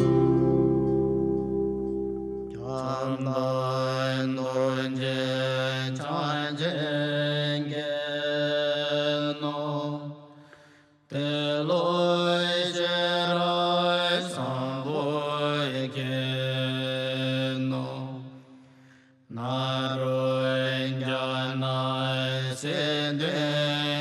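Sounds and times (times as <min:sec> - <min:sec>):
low voice chanting: 0:02.5 - 0:10.3, 0:11.1 - 0:18.4, 0:19.3 - 0:24.0.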